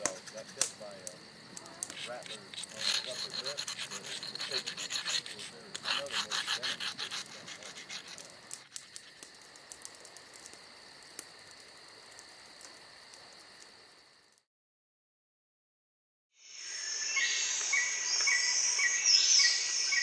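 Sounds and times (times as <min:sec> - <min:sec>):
crickets and katydids chorus: 0:00.0 - 0:14.4, 0:16.4 - 0:20.0.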